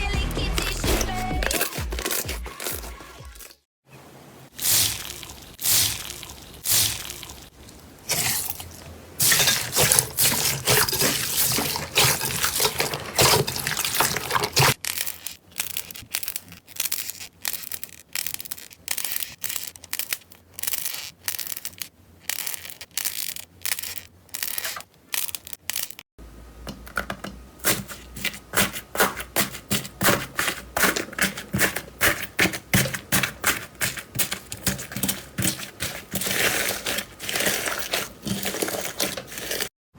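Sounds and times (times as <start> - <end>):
slime squishing by hand: 0.6 - 3.6, 4.5 - 26.0, 27.6 - 39.7.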